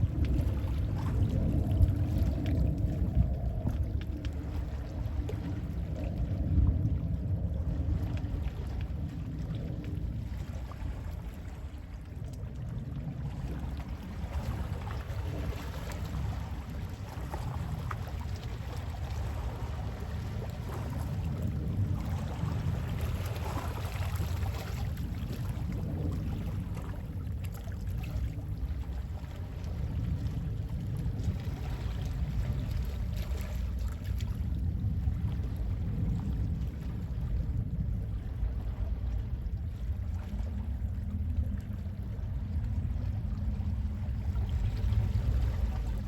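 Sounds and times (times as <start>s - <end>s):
sea wind rumble: 0.0s - 46.0s.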